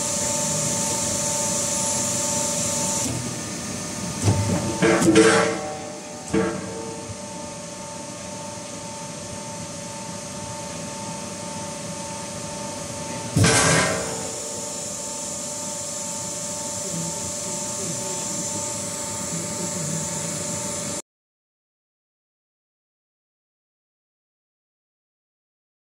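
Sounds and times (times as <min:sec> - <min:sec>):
machine humming and whining: 0:00.0 - 0:21.0.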